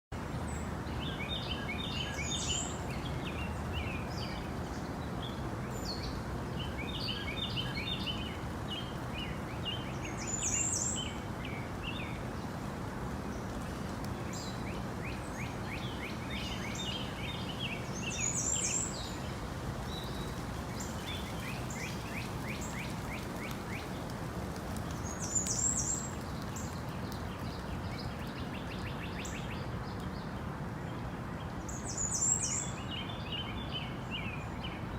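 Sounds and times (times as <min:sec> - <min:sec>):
steady background hiss: 0:00.2 - 0:34.9.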